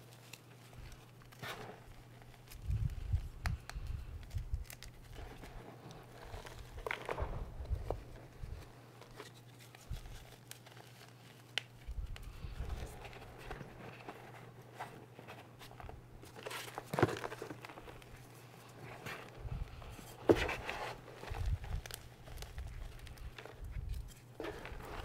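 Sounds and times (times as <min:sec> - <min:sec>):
chalk rustling and crunching: 0:00.0 - 0:25.0.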